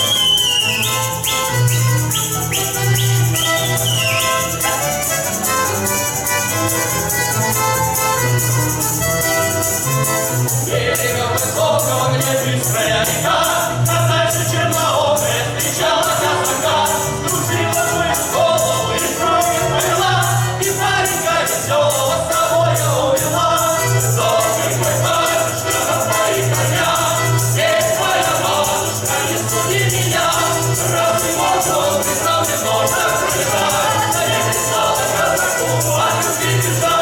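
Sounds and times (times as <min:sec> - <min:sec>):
instrumental folk music: 0:00.0 - 0:37.0
jingling percussion beat: 0:00.0 - 0:37.0
voices singing together: 0:00.0 - 0:37.0.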